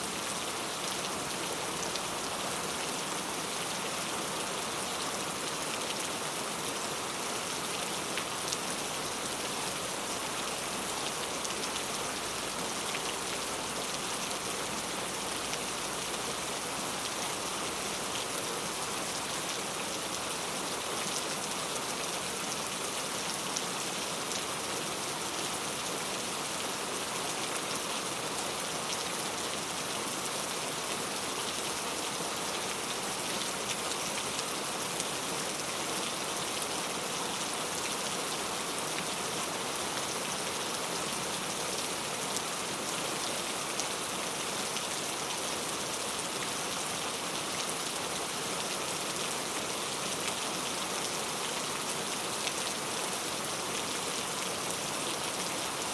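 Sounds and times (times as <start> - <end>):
heavy rain on street: 0.0 - 55.9.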